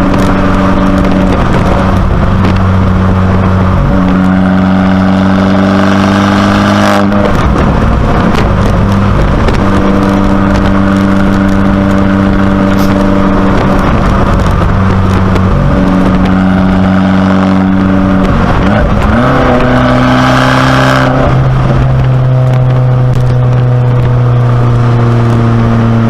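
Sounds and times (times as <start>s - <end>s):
car engine running: 0.0s - 26.0s
exhaust crackles and pops: 0.0s - 26.0s.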